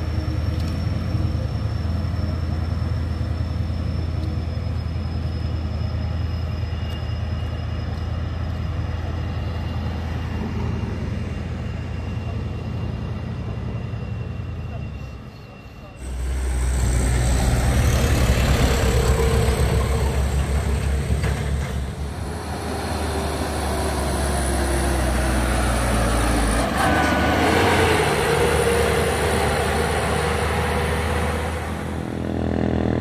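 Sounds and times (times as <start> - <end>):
diesel truck engine rumbling: 0.0 - 33.0
road noise: 0.0 - 33.0.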